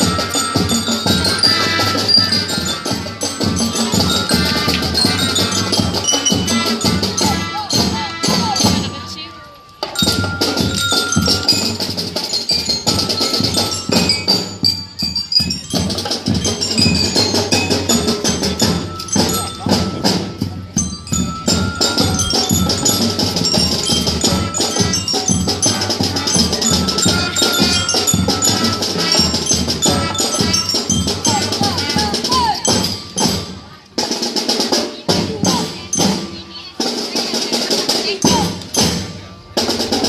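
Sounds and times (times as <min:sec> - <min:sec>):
marching band playing: 0:00.0 - 0:40.0
marching percussion: 0:00.0 - 0:40.0.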